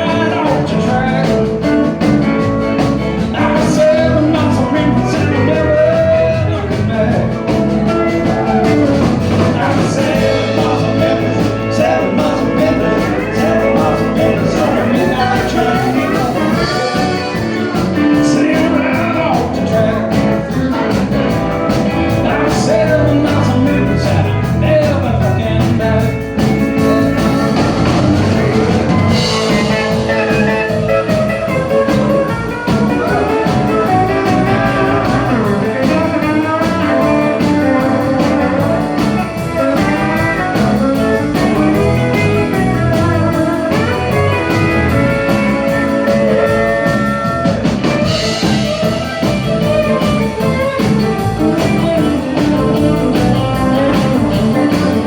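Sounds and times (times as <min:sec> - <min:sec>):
live country band playing: 0:00.0 - 0:55.0.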